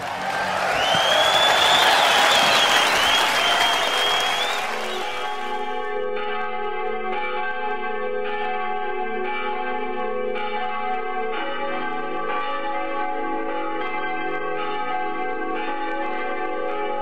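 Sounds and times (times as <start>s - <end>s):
bells ringing: 0.0s - 17.0s.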